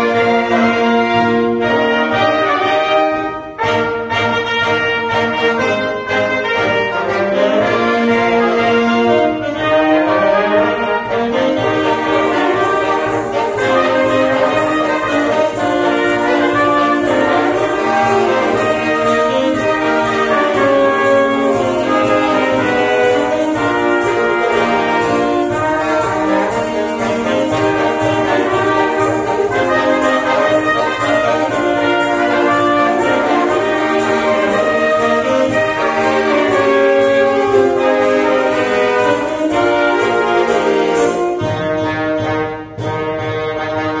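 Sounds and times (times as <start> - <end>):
wind ensemble playing a hymn: 0.0 - 44.0.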